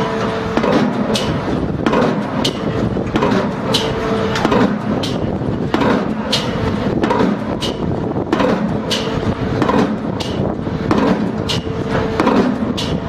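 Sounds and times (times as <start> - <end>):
rig noise: 0.0 - 13.0.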